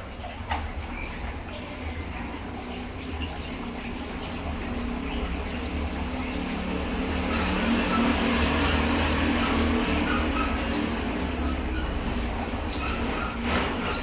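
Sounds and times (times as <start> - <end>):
pump low hum: 0.0 - 14.0
water splashing and gushing: 0.0 - 14.0.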